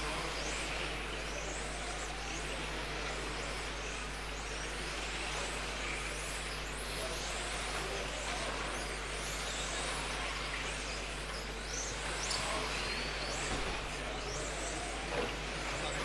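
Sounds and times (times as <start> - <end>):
constant low hum: 0.0 - 16.0
electric motors whining: 0.0 - 16.0.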